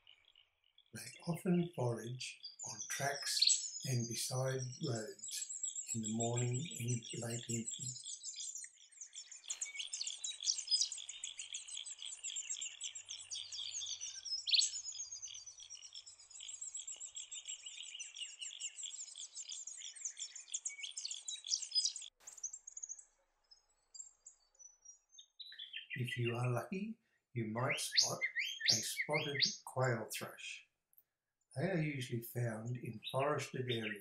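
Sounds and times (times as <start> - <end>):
birds chirping and twittering: 0.0 - 30.6, 31.6 - 34.0.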